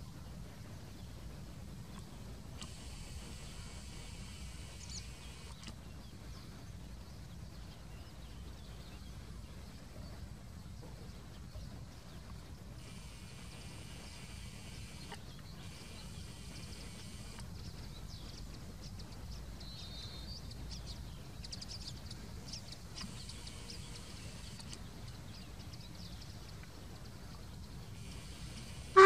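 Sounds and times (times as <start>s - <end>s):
small birds chirping: 0.2s - 29.0s.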